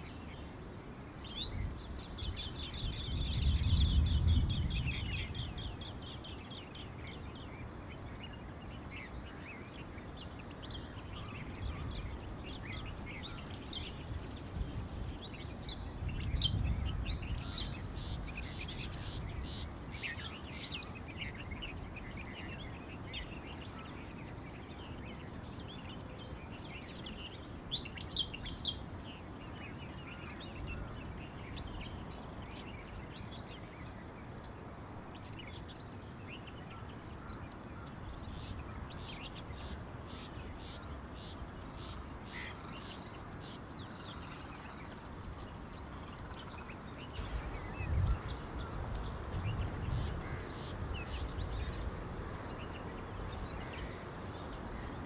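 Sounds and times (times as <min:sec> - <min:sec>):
insect trill: 0:00.0 - 0:55.0
small birds chirping: 0:00.0 - 0:55.0.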